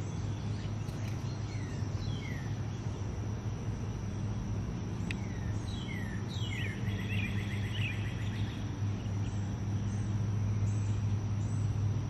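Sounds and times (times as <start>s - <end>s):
birds whistling: 0.0s - 3.0s, 5.0s - 11.7s
steady low hum: 0.0s - 12.0s.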